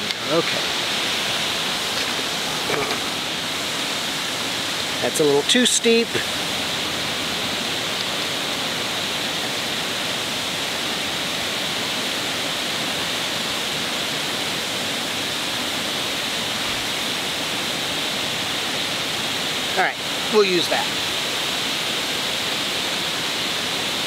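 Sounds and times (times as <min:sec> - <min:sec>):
water rushing over waterfall: 0:00.0 - 0:24.0.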